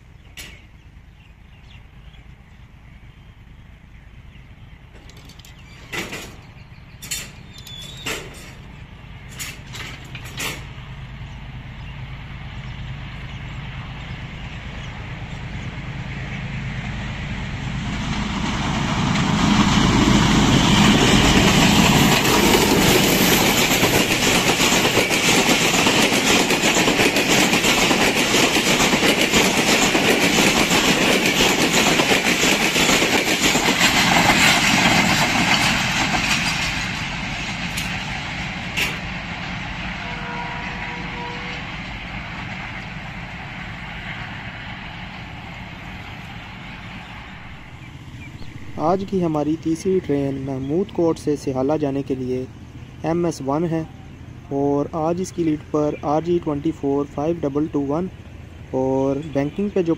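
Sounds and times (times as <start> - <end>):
diesel locomotive rumble: 0.0 - 59.9
wheels rushing on rails: 0.0 - 59.9.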